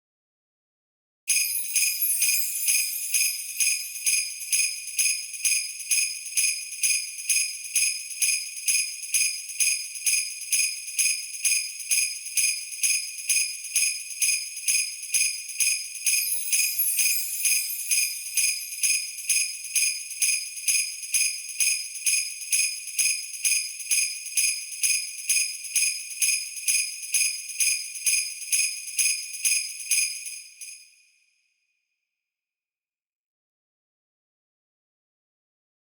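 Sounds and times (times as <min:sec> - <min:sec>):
sleigh bells jingling: 0:01.3 - 0:31.0.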